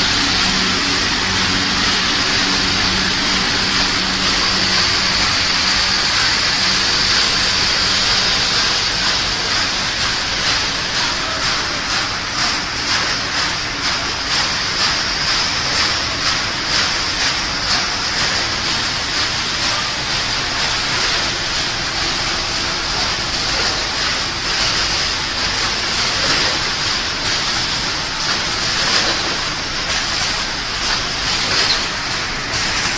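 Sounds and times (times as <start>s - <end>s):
production line machinery hissing din: 0.0s - 32.9s.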